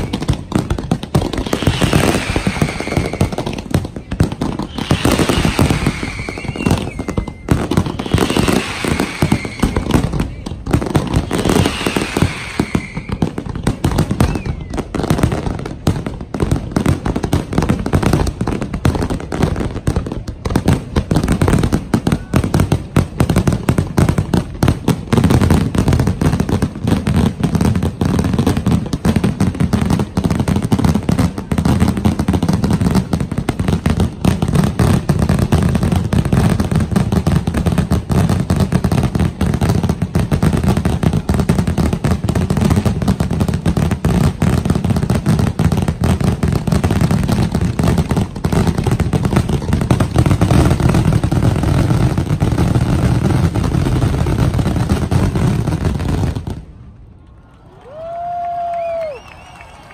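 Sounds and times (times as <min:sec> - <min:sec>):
fireworks exploding: 0:00.0 - 0:59.9.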